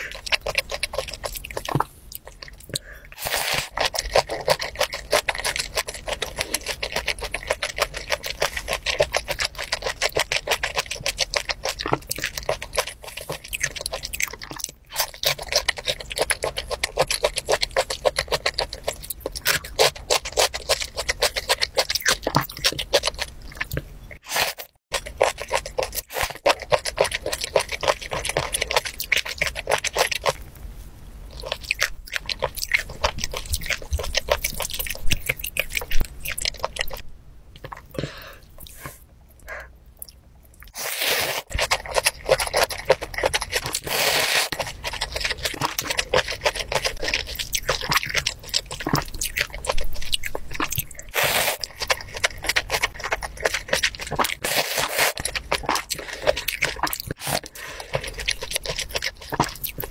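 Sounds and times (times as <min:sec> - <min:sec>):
wet chewing with mouth clicks: 0:00.0 - 0:59.9.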